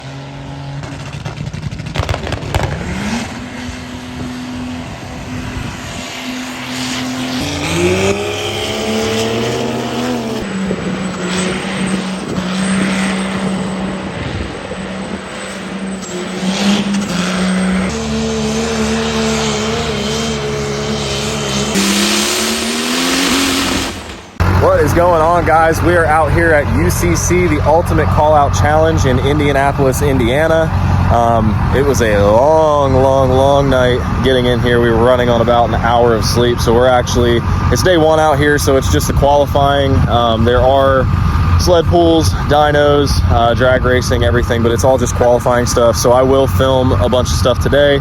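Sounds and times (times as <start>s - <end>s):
diesel engines at high revs: 0.0s - 48.0s.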